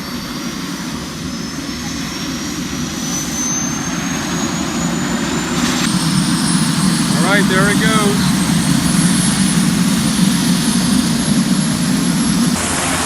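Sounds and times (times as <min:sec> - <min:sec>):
helicopter engine spooling up: 0:00.0 - 0:13.0
rising turbine whine: 0:00.0 - 0:13.0.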